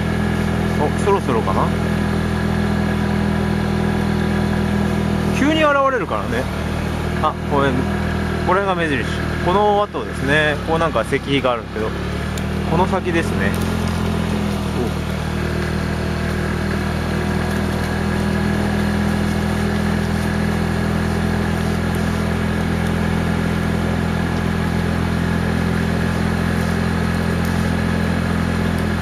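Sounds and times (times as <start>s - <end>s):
vehicle engine low drone: 0.0s - 29.0s.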